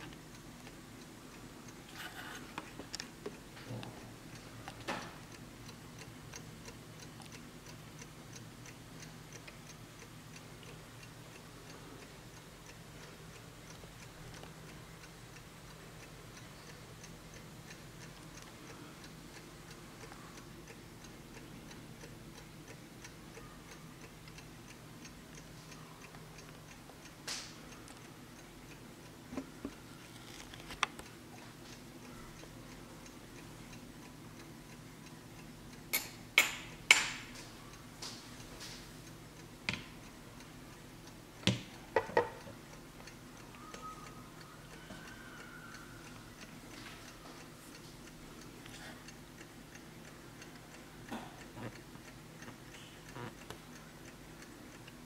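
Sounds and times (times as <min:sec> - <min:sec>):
mantel clock ticking: 0:00.0 - 0:30.1, 0:30.9 - 0:55.0.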